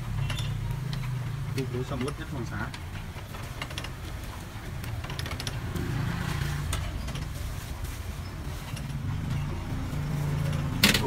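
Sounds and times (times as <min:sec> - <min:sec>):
low hum of traffic: 0:00.0 - 0:11.0.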